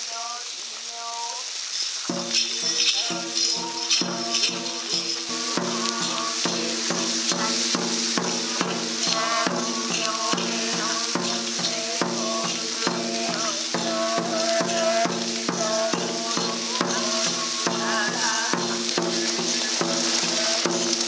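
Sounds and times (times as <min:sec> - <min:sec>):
many voices chanting in unison: 0:02.1 - 0:21.0
steady beat: 0:02.1 - 0:21.0.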